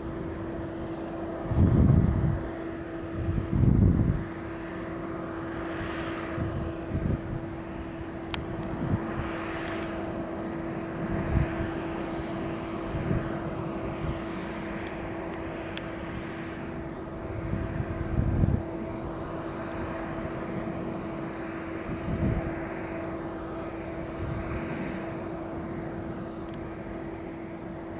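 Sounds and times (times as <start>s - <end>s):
jet engines humming: 0.0s - 27.9s.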